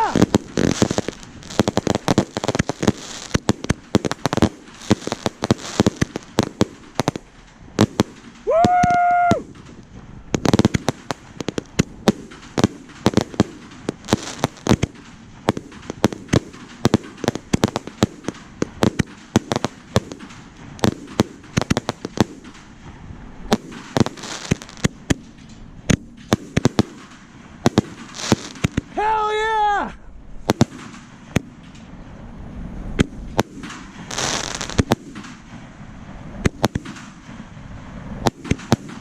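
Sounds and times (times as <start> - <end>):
fireworks bangs and crackle: 0.0 - 39.0.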